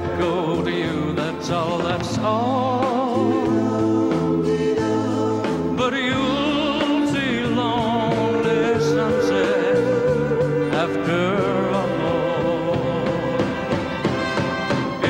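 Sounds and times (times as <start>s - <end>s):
man singing with vibrato: 0.0s - 14.0s
band accompaniment: 0.0s - 15.0s.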